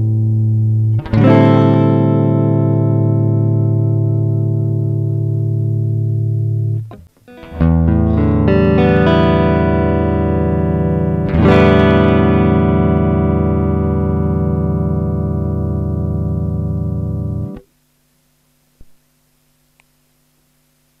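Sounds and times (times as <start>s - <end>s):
clean electric guitar: 0.0s - 17.7s.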